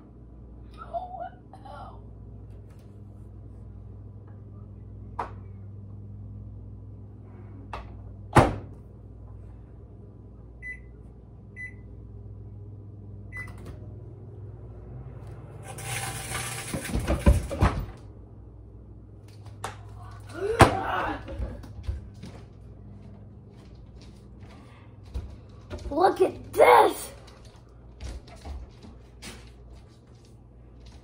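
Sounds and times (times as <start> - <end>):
microwave humming: 0.0 - 31.0.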